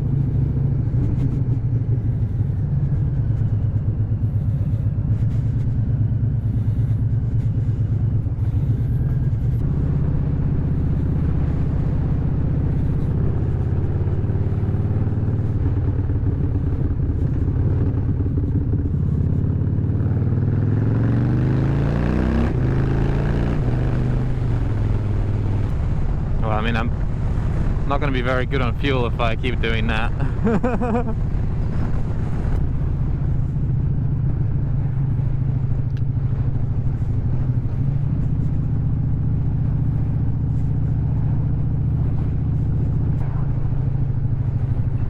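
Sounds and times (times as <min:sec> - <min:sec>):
motorcycle exhaust at cruise: 0:00.0 - 0:45.0.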